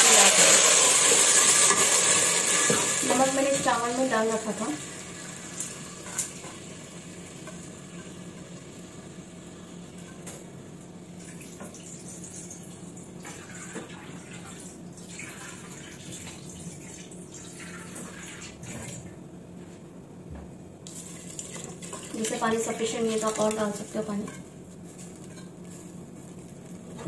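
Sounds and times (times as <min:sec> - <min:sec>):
pot heating with low hiss: 0:00.0 - 0:27.0.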